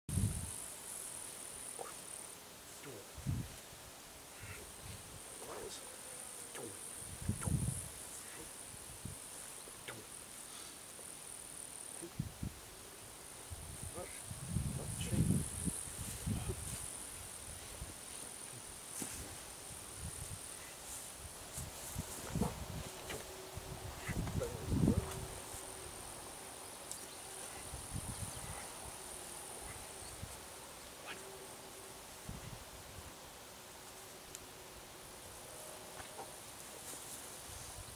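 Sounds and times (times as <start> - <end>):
insects chirring: 0.1 - 37.9.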